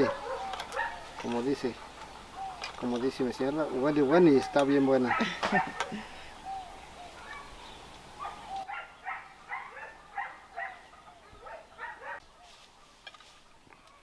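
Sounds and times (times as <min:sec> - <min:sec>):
farm animals calling: 0:00.0 - 0:14.0.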